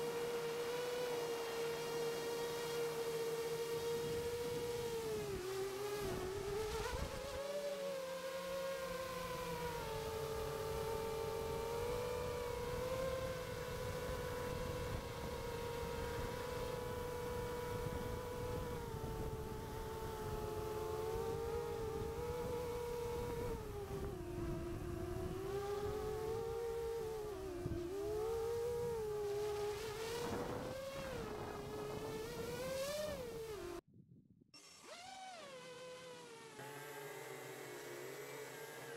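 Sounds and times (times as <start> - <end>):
drone motors whining: 0.0 - 33.8, 34.6 - 38.9.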